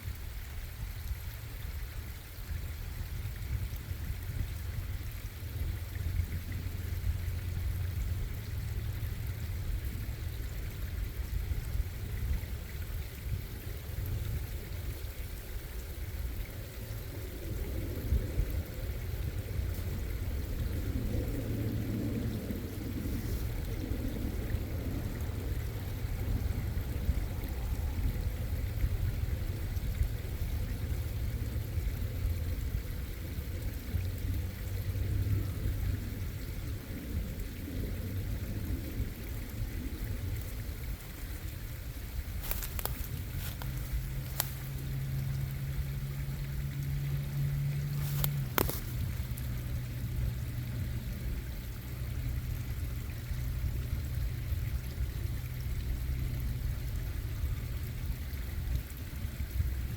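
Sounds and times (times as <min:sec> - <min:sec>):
steady low hum: 0:00.0 - 0:59.9
stream water running: 0:00.0 - 0:59.9.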